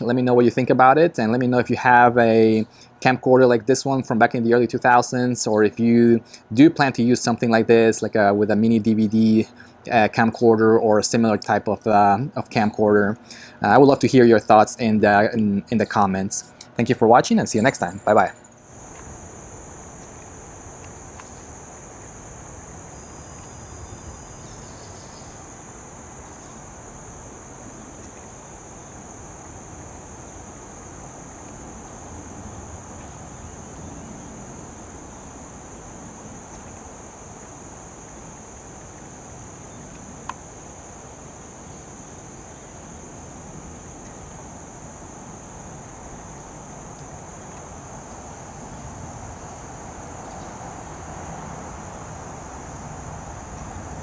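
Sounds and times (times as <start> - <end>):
crickets chirping: 0.0 - 54.0
outdoor background noise: 0.0 - 54.0.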